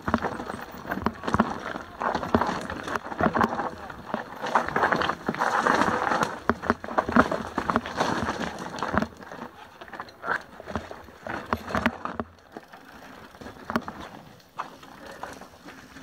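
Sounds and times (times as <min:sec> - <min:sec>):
bike rattling: 0:00.0 - 0:16.0
bike tyres crunching on gravel: 0:00.0 - 0:16.0.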